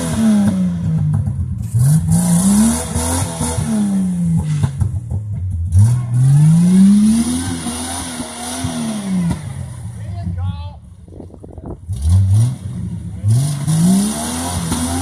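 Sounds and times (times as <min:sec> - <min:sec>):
car engine revving hard: 0:00.0 - 0:10.0, 0:11.9 - 0:15.0.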